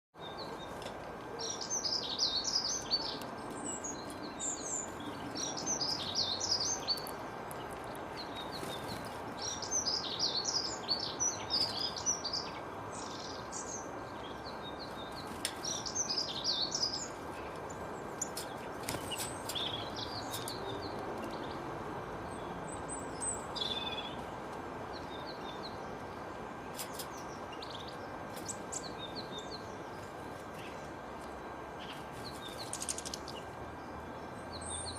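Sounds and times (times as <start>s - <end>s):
faint constant tone: 0.2s - 34.9s
small songbirds chirping: 0.2s - 34.9s.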